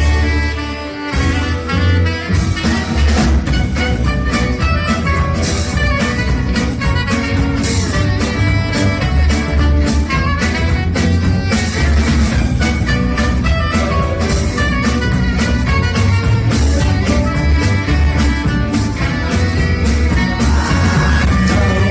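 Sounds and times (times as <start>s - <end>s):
band playing ragtime: 0.0s - 21.9s.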